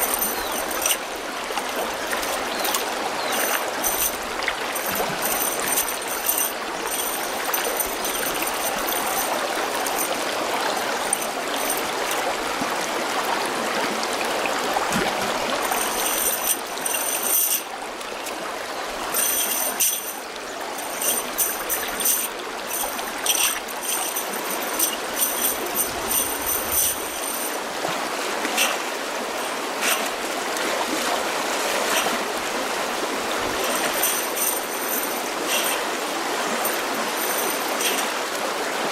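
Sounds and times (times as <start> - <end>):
water running: 0.0 - 13.2, 14.4 - 38.9.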